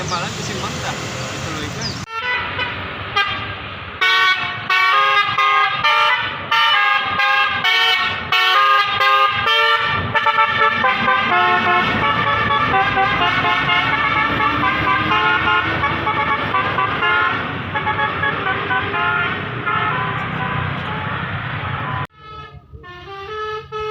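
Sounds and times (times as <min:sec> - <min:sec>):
musical horn playing tune: 0:02.1 - 0:23.9.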